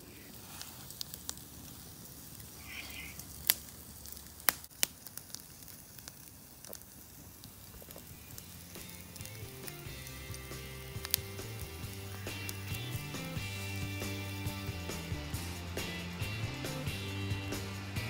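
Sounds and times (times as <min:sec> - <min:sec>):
campfire crackling pops: 0:00.0 - 0:18.0
food sizzling on grill: 0:00.0 - 0:18.0.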